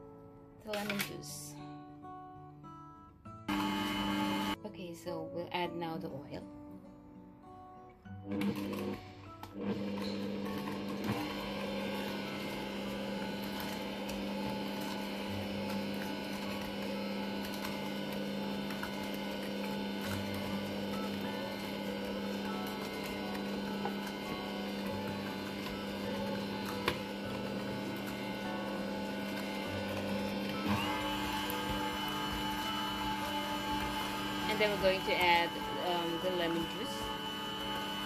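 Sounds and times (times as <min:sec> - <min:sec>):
stand mixer motor humming: 0:03.5 - 0:04.6, 0:08.3 - 0:38.0.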